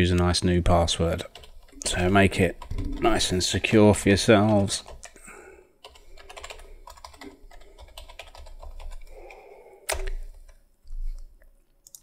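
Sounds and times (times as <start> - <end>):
keyboard typing: 1.2 - 11.2.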